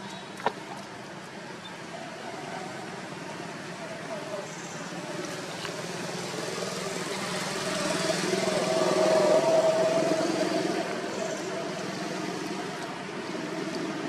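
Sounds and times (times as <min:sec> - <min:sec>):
vehicle engine humming: 0:02.7 - 0:14.0.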